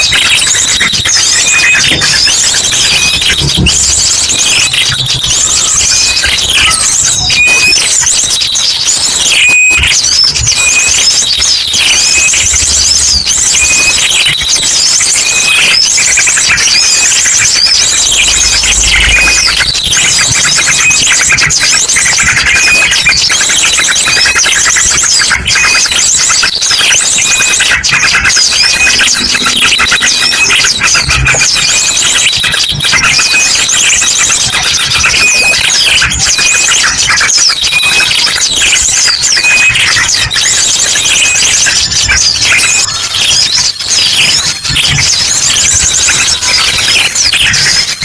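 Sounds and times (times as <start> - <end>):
drongo calling: 0.0 - 48.0
small birds chirping and trilling: 0.0 - 48.0.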